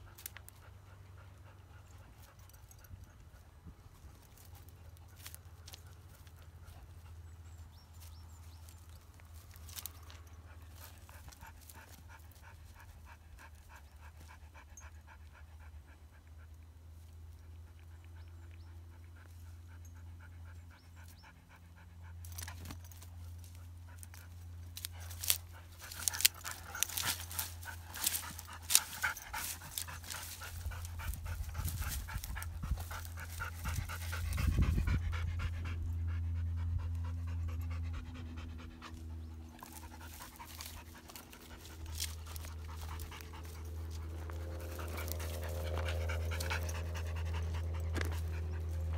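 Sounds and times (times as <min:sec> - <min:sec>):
dogs panting: 0:00.0 - 0:48.9.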